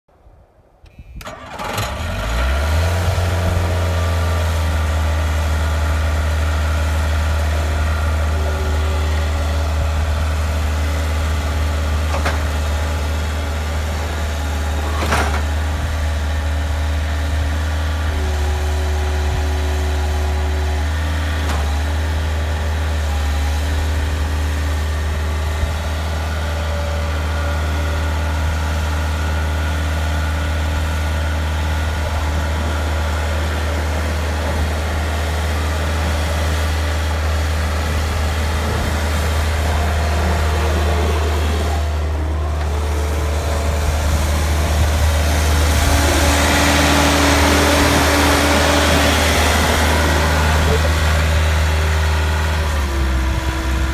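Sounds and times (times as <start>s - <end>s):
skid steer engine running: 0.9s - 53.9s.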